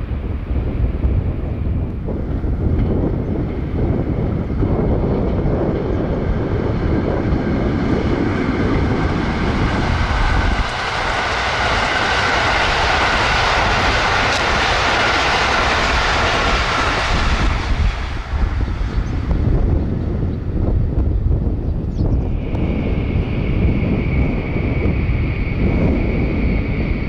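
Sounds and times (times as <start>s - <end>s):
train passing at high speed: 0.0s - 27.0s
wind rumbling on microphone: 0.0s - 27.0s.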